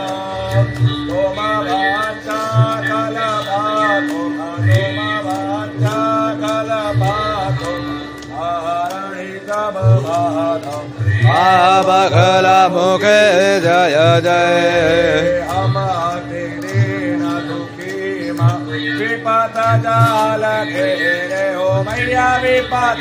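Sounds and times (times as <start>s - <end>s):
chant-style singing: 0.0s - 23.0s
steady drone: 0.0s - 23.0s.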